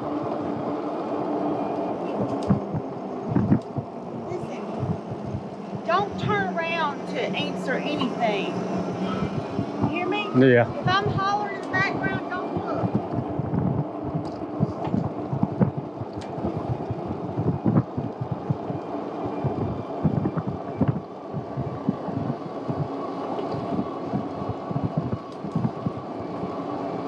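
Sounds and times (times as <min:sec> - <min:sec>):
faint steady hum: 0:00.0 - 0:27.0
wind buffeting microphone: 0:00.0 - 0:27.0.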